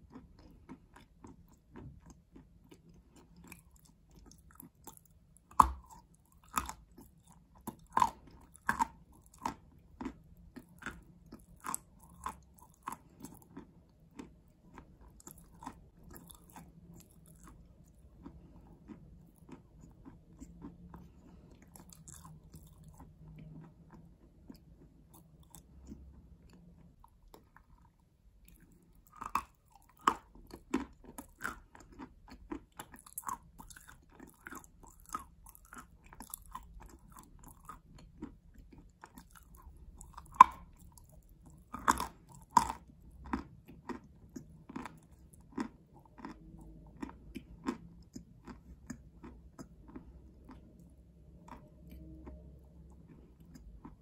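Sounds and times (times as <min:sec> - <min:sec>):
chewing chalk crunches: 0:00.0 - 0:54.0.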